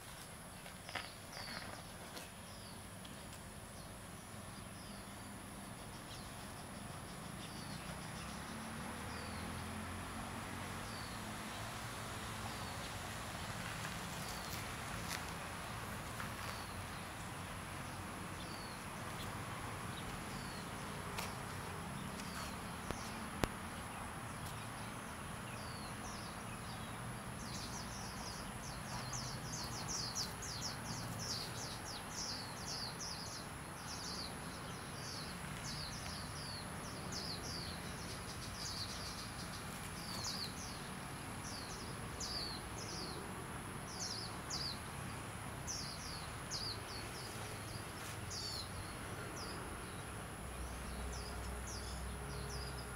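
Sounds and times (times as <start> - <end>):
small birds chirping: 0.0 - 52.9
steady high hiss: 0.0 - 52.9.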